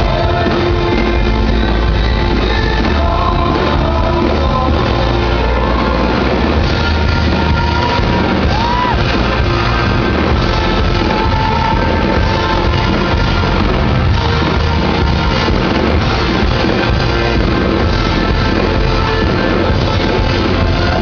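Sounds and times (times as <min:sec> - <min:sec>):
pop-rock band playing live: 0:00.0 - 0:21.0.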